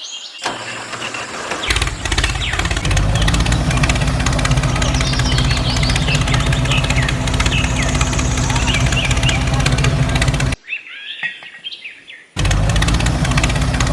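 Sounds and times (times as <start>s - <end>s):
birds chirping: 0.0s - 13.9s
engine starting and idling: 0.4s - 10.6s, 12.4s - 13.9s.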